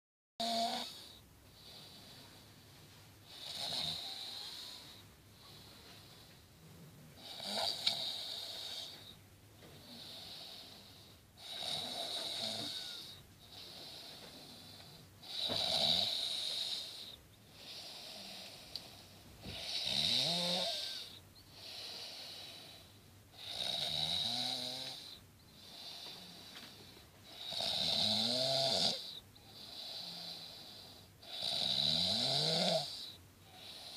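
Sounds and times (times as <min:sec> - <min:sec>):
person snoring: 0:00.4 - 0:02.2, 0:03.3 - 0:05.0, 0:07.2 - 0:09.0, 0:09.9 - 0:18.8, 0:19.5 - 0:22.8, 0:23.4 - 0:26.6, 0:27.3 - 0:33.9
quiet breathing: 0:00.7 - 0:27.8, 0:28.9 - 0:31.4, 0:32.8 - 0:33.9.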